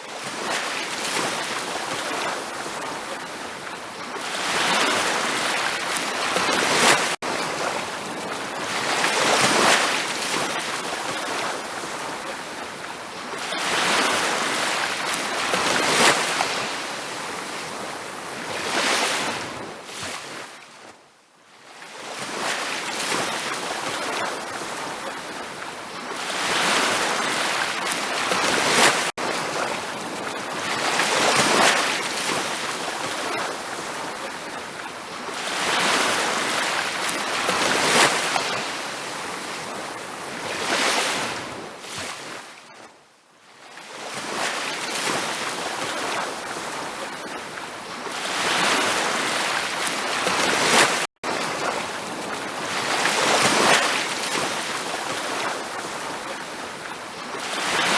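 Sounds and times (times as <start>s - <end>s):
ocean waves washing onto beach: 0.0s - 20.8s, 21.7s - 42.8s, 43.6s - 57.9s.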